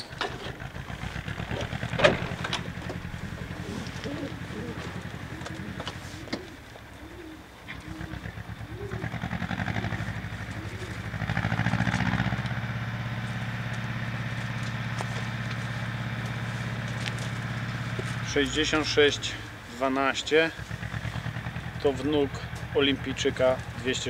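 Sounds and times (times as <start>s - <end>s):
motor engine idling: 0.0s - 24.0s.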